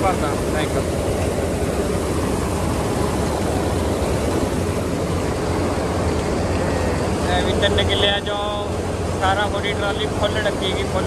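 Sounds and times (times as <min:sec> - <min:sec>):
diesel engine drone: 0:00.0 - 0:11.0
even rushing noise: 0:00.0 - 0:11.0.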